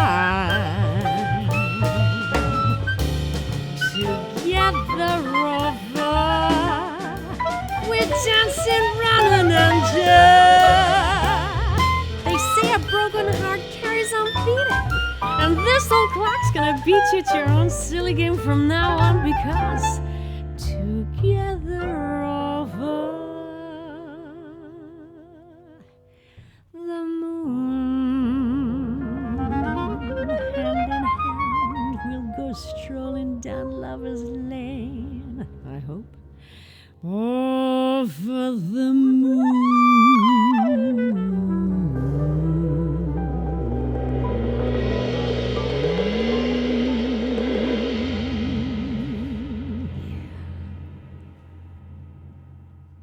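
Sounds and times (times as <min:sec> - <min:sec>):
jazz song with band: 0:00.0 - 0:24.9, 0:28.2 - 0:37.2, 0:39.0 - 0:52.0.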